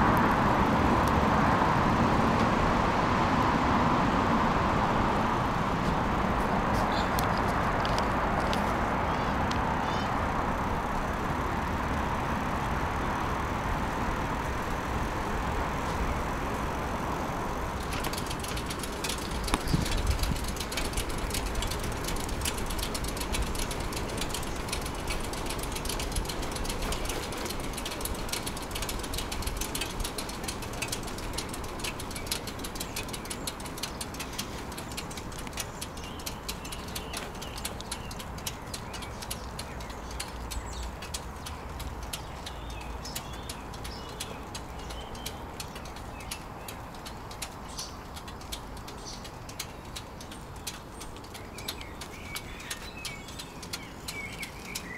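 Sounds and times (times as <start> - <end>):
rumble of wind and tyres: 0.0 - 54.9
bicycle freewheel ticking: 9.8 - 54.9.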